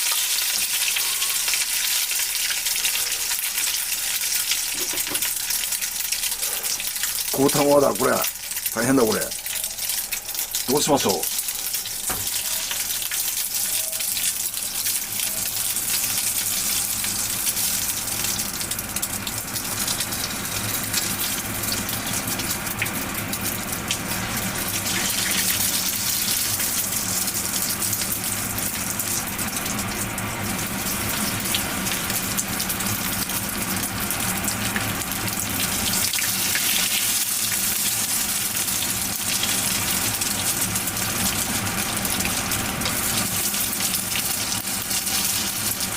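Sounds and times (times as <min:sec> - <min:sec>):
food deep-frying in hot oil: 0:00.0 - 0:45.9.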